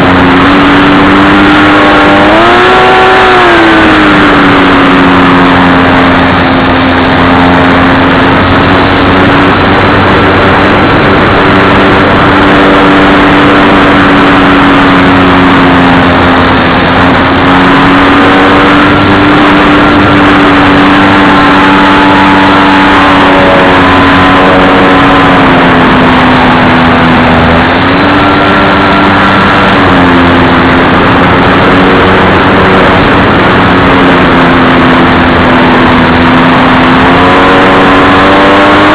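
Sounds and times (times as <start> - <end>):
model plane motor droning: 0.0 - 38.9.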